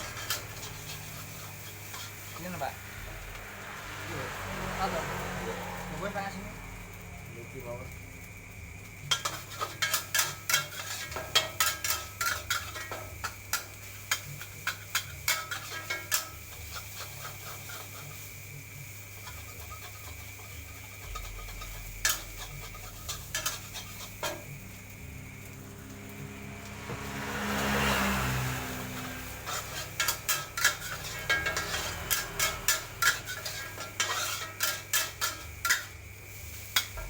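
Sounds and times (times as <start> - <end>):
metal spatula scraping a wok: 0.0 - 4.4, 9.0 - 37.0.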